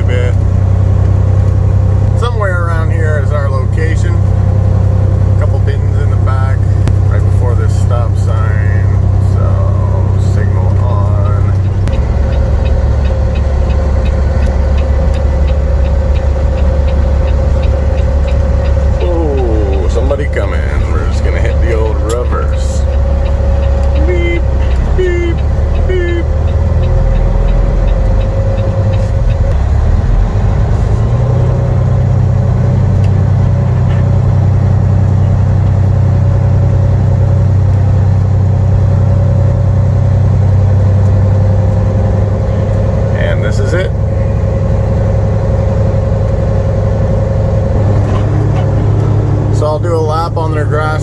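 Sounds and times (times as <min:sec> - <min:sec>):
diesel engine idling: 0:00.0 - 0:51.0
turn signal ticking: 0:00.0 - 0:51.0.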